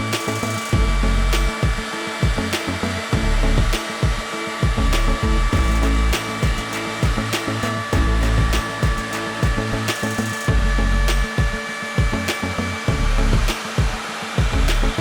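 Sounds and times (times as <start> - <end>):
background music with beat: 0.0 - 15.0
router spindle high whine: 0.0 - 15.0.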